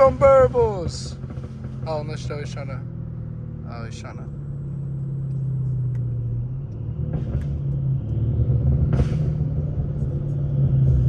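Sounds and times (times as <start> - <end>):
car engine drone: 0.0 - 11.0.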